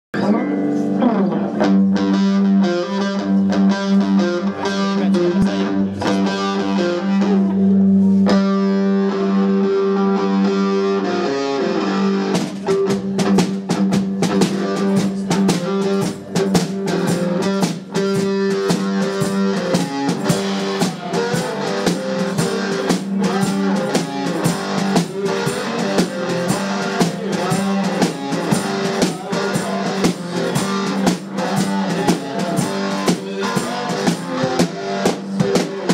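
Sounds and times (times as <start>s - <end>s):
distorted electric guitar riff: 0.2s - 35.9s
drum kit: 0.2s - 35.9s.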